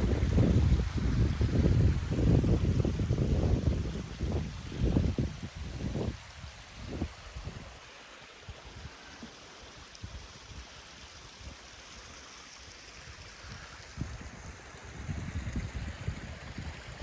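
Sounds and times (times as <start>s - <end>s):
faint rushing water: 0.0s - 17.0s.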